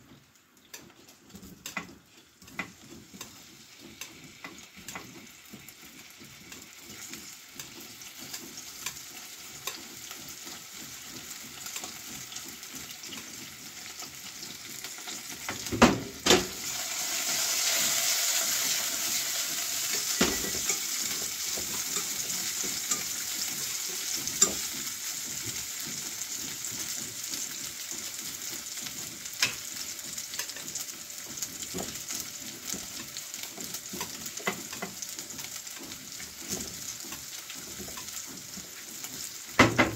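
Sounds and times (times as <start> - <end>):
carrots sizzling in frying pan: 0.0 - 39.9
utensils clicking on pan: 0.0 - 39.9.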